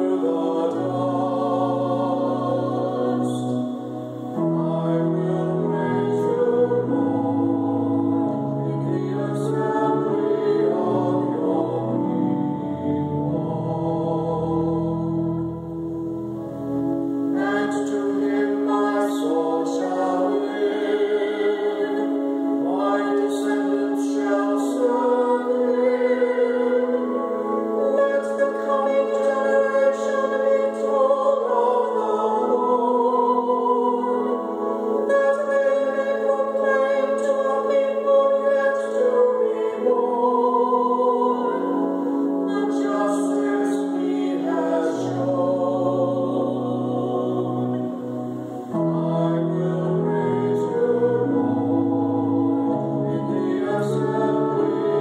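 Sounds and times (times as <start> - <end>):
man and woman singing: 0.0 - 15.4, 17.4 - 55.0
pipe organ sustained chords: 0.0 - 55.0.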